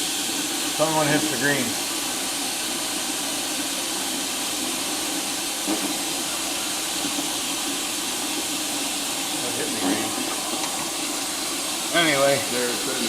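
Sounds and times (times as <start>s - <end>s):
compressed air hissing: 0.0s - 13.0s.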